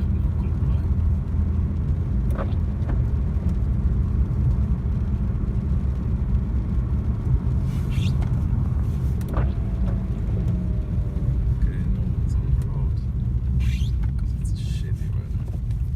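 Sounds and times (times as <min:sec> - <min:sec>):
engine and road rumble: 0:00.0 - 0:15.9.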